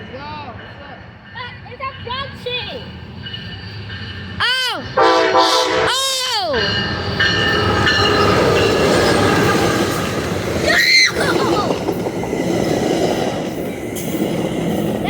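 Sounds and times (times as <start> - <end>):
train wheels rumbling on track: 0.0 - 15.0
steady tones: 0.5 - 15.0.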